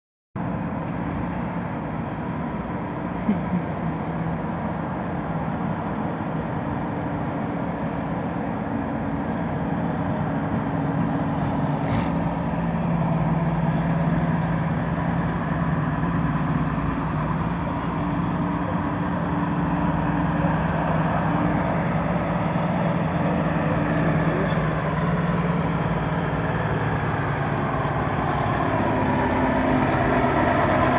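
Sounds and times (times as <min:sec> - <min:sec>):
truck diesel engine running: 0:00.4 - 0:30.9.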